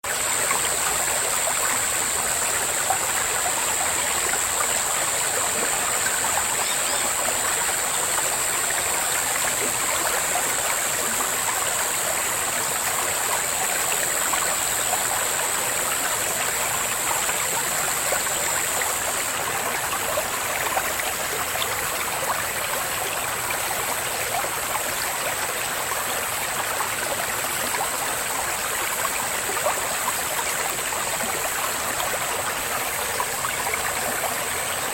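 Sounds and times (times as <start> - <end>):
brook burbling over stones: 0.0 - 34.9
cicadas droning: 0.1 - 34.9.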